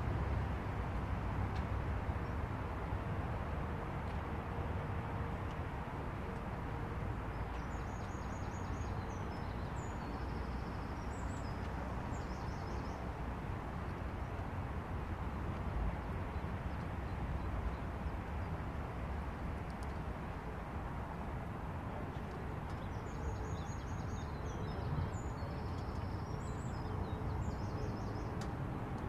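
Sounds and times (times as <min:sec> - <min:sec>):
low outdoor background rush: 0:00.0 - 0:29.0.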